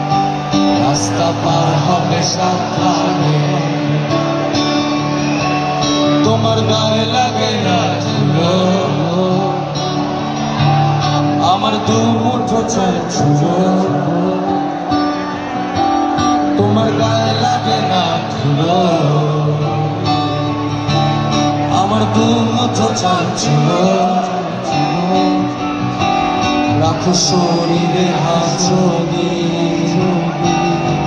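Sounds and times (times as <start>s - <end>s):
live band with guitars: 0.0s - 31.0s.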